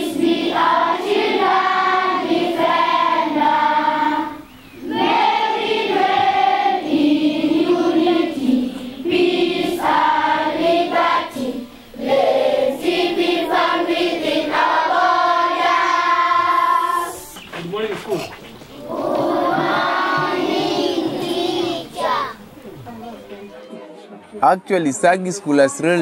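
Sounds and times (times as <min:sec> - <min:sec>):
children's choir singing: 0:00.0 - 0:17.8, 0:18.7 - 0:24.1.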